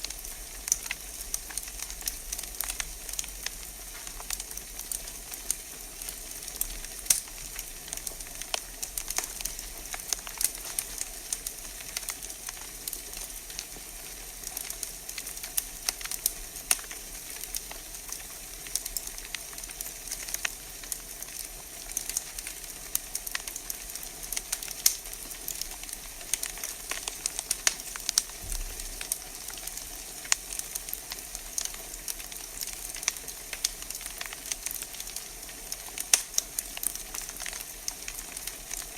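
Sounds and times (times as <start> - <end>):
logs popping and crackling: 0.0 - 38.9.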